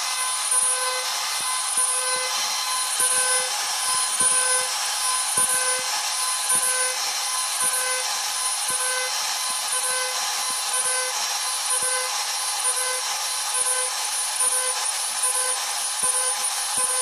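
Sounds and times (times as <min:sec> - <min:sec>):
router spindle cutting wood: 0:00.0 - 0:17.0.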